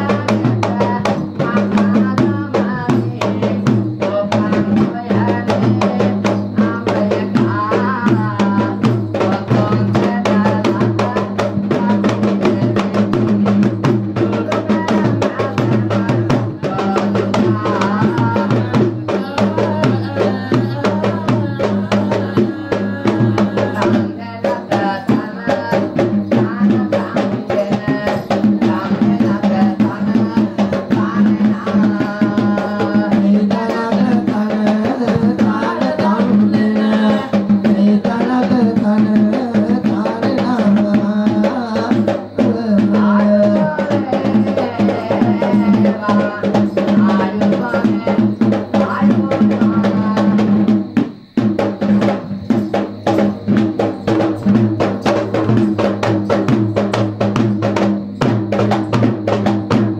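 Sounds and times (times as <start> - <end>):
barrel drums beaten fast: 0.0 - 59.9.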